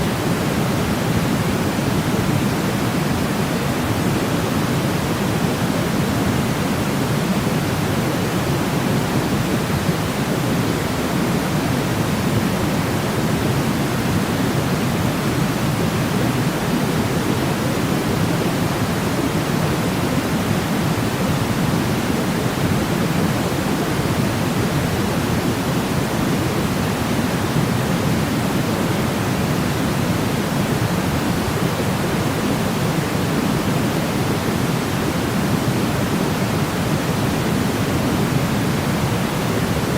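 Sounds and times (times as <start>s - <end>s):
steady deep white noise: 0.0s - 39.9s.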